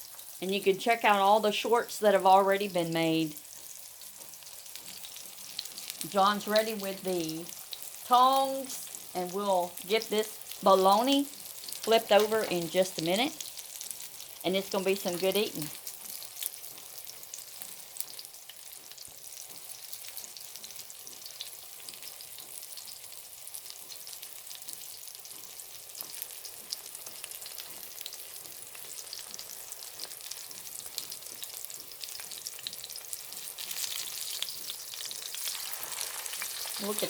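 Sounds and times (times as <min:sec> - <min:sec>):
meat sizzling in oil: 0:00.0 - 0:37.0.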